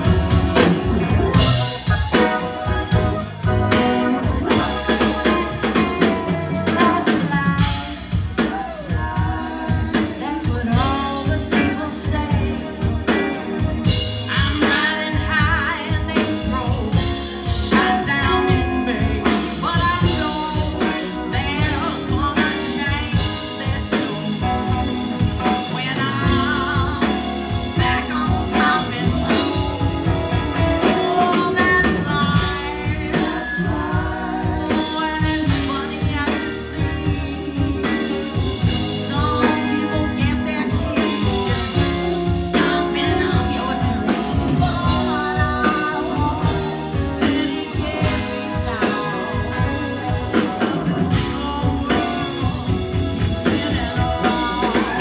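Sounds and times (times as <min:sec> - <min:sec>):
rock band playing: 0:00.0 - 0:55.0
woman singing: 0:00.0 - 0:55.0.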